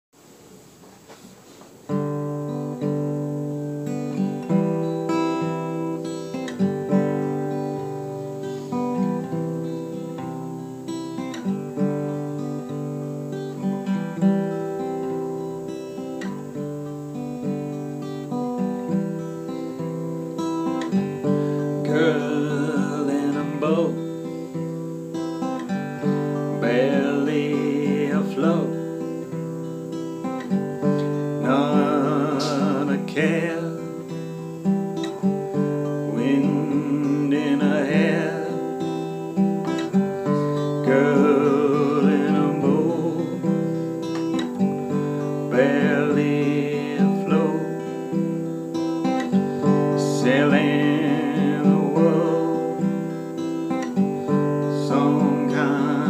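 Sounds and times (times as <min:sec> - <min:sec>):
acoustic guitar strumming: 0:01.0 - 0:56.0.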